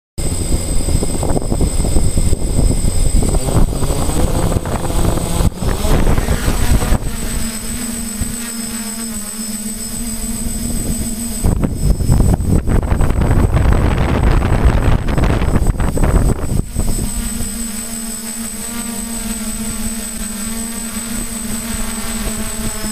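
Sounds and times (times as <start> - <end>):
drone motors and propellers: 0.2 - 22.9.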